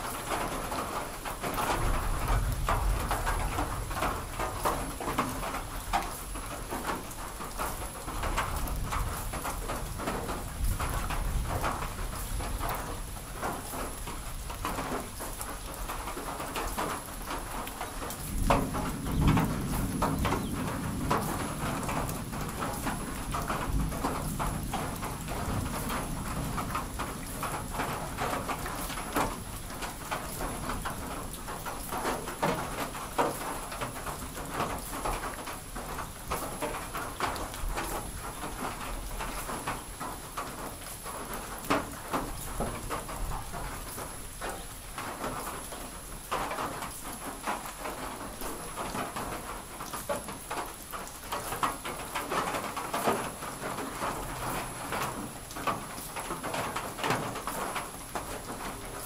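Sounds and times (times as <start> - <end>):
light rain dripping: 0.0 - 59.0.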